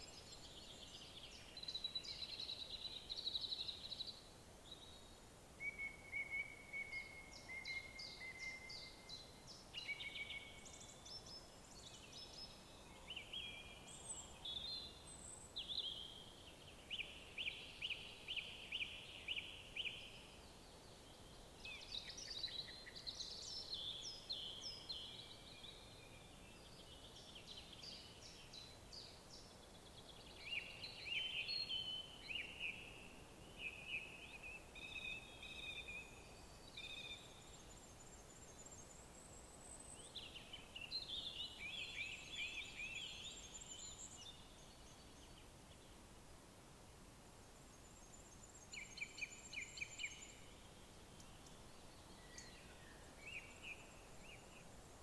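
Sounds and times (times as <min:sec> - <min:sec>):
songbirds singing: 0:00.0 - 0:46.1, 0:47.4 - 0:55.0
faint background hiss: 0:00.0 - 0:55.0.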